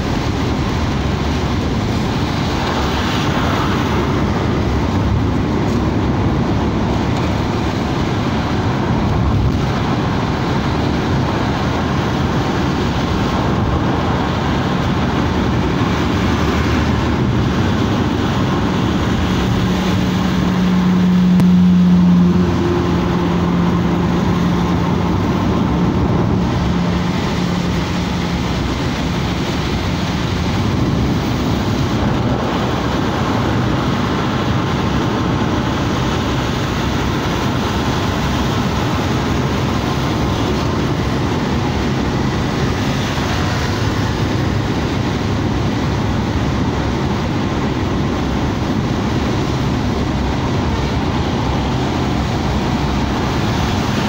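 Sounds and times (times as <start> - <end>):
car running: 0.0 - 54.0
low hum: 0.0 - 54.0
tyres on wet asphalt: 0.0 - 54.0.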